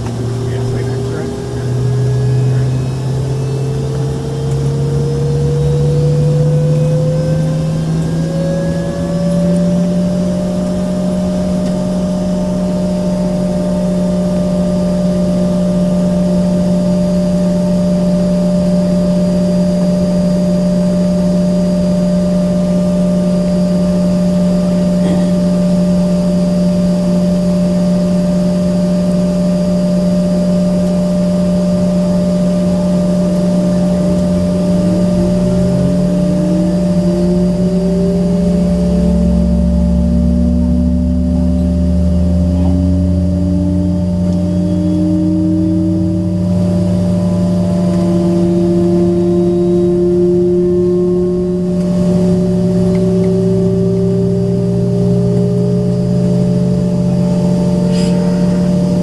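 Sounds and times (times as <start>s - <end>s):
jet engine whine from cabin: 0.0s - 59.0s.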